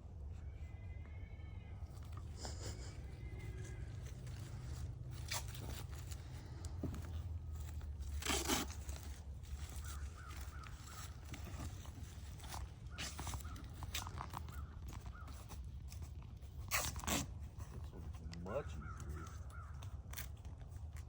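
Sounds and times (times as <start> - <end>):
handling noises scraping and rustling: 1.8 - 21.0.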